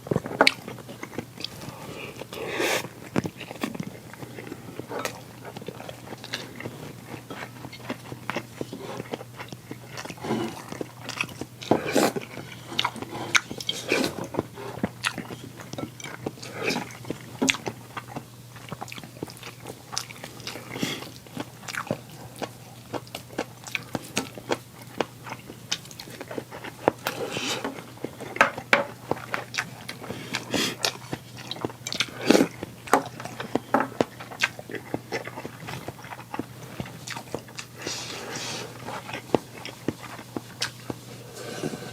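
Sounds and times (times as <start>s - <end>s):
chewing and biting: 0.0s - 41.2s.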